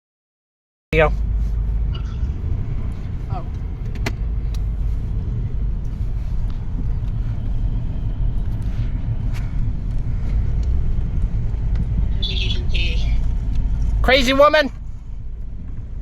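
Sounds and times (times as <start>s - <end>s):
car cabin rumble: 1.0s - 16.0s.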